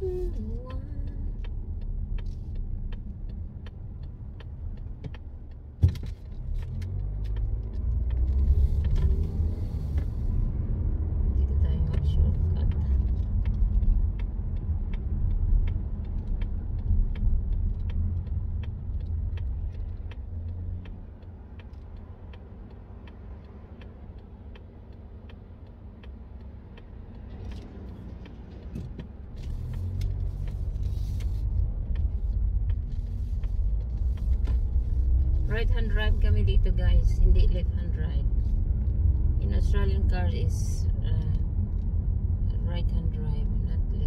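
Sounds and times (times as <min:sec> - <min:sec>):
car engine and tyre rumble: 0:00.0 - 0:44.0
light regular ticking: 0:00.0 - 0:44.0.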